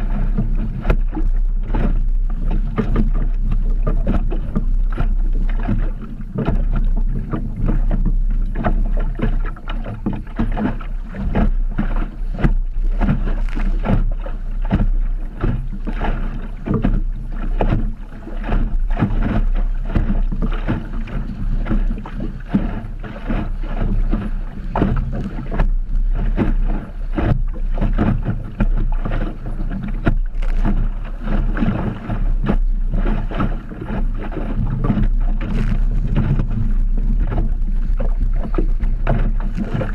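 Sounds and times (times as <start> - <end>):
low rumble of wind: 0.0 - 39.9
waves slapping against hull: 0.0 - 39.9.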